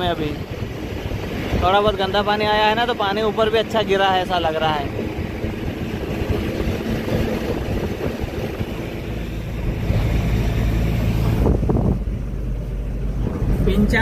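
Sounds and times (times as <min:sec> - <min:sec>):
truck engine drone: 0:00.0 - 0:14.0
tyre and road noise: 0:00.0 - 0:14.0
wind on microphone: 0:00.0 - 0:14.0.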